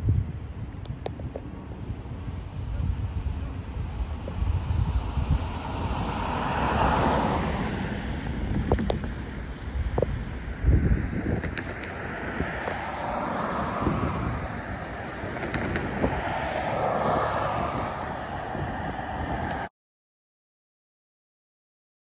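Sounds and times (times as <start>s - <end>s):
wind buffeting microphone: 0.0s - 19.7s
cars driving past: 1.4s - 19.7s.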